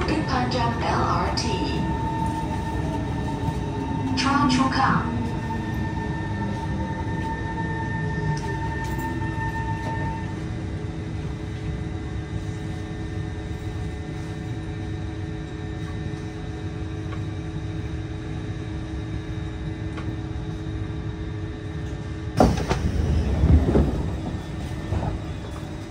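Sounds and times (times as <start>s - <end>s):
train hum and rumble: 0.0s - 25.9s.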